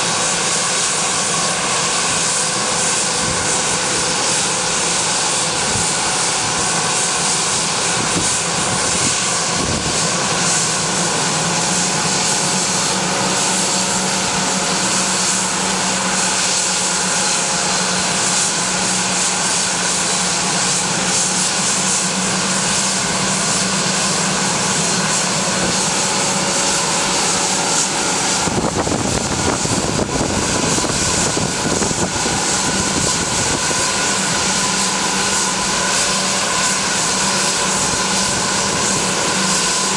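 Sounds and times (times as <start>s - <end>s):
deep jet engine rumble: 0.0s - 39.9s
jet engines whining at idle: 0.0s - 39.9s.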